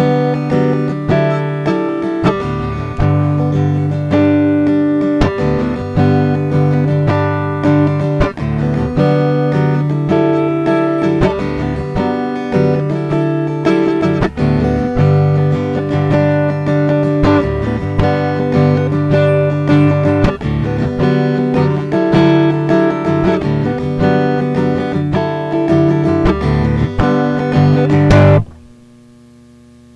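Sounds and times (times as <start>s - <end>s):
acoustic guitar strumming: 0.0s - 28.8s
faint hum and hiss: 0.0s - 29.9s.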